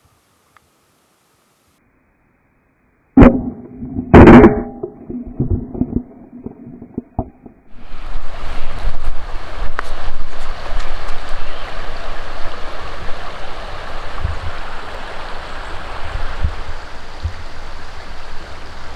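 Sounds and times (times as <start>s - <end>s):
rushing water: 3.2s - 18.9s
wind rumble on microphone: 3.4s - 18.9s.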